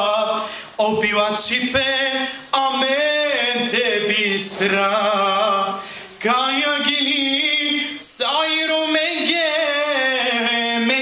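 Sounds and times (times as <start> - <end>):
man singing slow song: 0.0 - 11.0.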